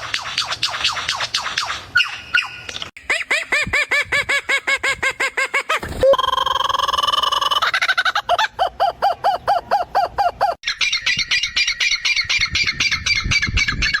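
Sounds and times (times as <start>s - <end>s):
bird squawking: 0.0s - 14.0s.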